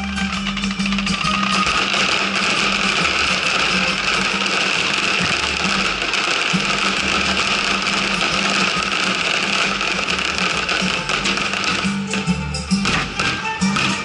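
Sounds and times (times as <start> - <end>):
firework crackling: 0.0 - 14.0
music with pulsing bass: 0.0 - 14.0.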